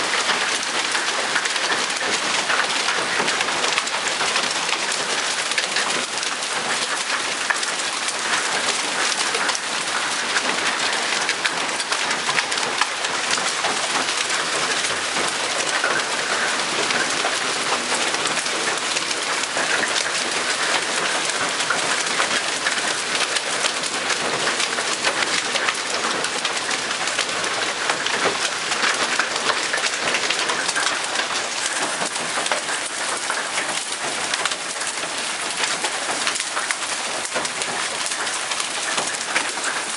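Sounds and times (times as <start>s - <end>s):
hail and heavy rain: 0.0s - 39.9s.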